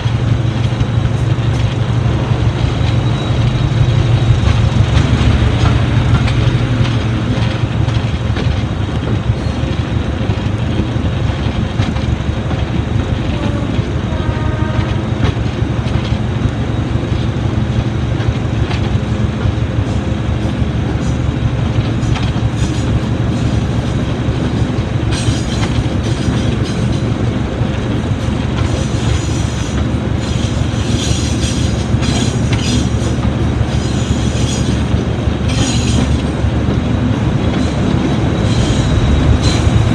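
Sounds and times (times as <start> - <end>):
diesel locomotive engine drone: 0.0 - 39.9
wheels rumbling on rails: 0.0 - 39.9.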